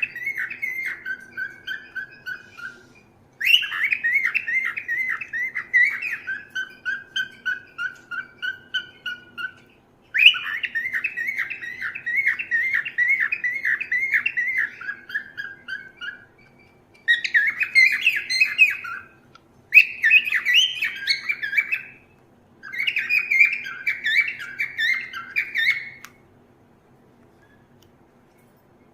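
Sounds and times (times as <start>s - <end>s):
cockatiel chirping: 0.0s - 26.2s.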